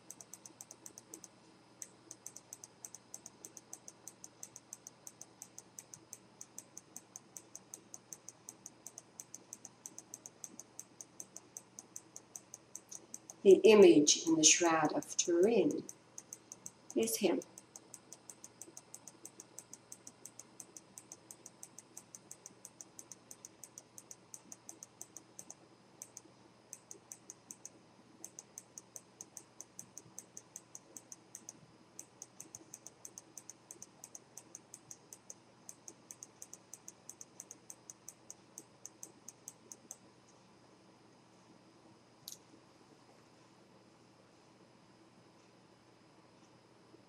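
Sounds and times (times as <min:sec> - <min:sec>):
mouse scroll wheel clicking: 0:00.0 - 0:13.6, 0:14.2 - 0:40.0.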